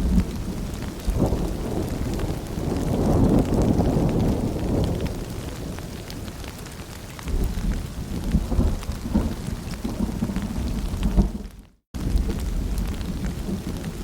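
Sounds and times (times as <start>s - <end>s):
distant thunder rumble: 0.0s - 6.6s, 7.2s - 14.0s
steady rain: 0.0s - 14.0s.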